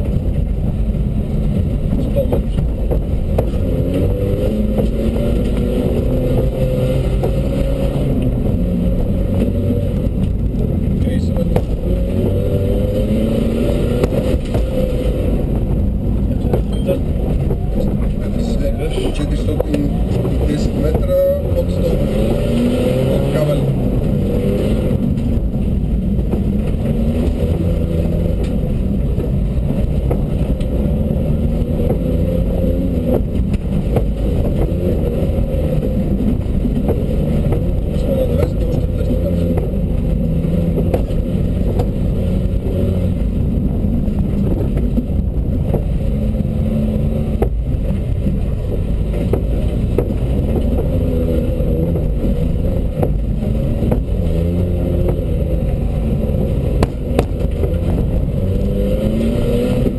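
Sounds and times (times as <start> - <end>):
car engine revving: 0.0 - 59.9
car knocks and rattles: 0.0 - 59.9.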